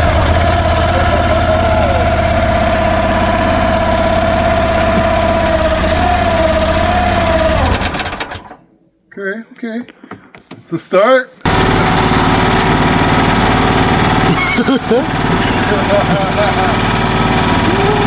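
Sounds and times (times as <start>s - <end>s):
excavator engine running: 0.0s - 8.6s, 11.5s - 18.0s.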